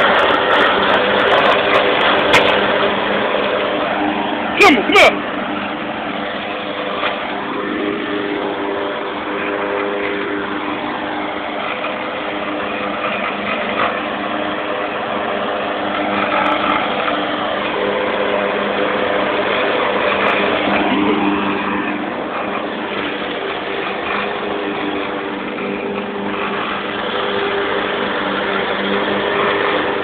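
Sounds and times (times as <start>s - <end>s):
lawnmower engine running: 0.0s - 30.0s.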